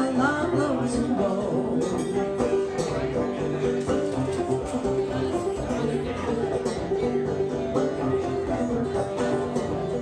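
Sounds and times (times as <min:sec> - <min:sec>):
banjo plucking: 0:00.0 - 0:10.0
cello banjo: 0:00.0 - 0:10.0.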